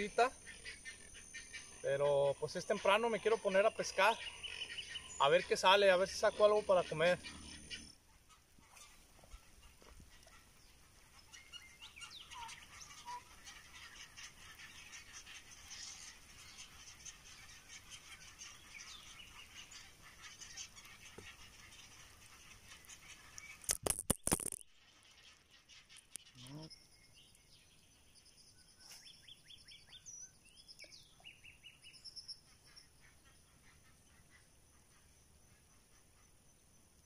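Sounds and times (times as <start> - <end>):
faint bird calls: 0.0 - 23.8, 24.7 - 37.0.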